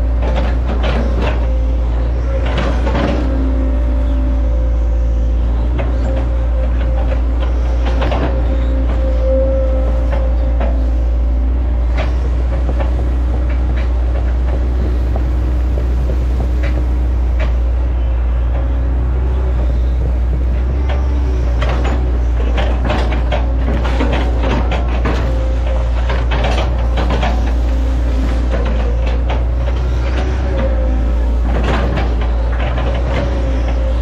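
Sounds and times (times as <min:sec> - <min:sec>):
excavator diesel engine running: 0:00.0 - 0:34.0
hydraulic whine: 0:00.0 - 0:34.0.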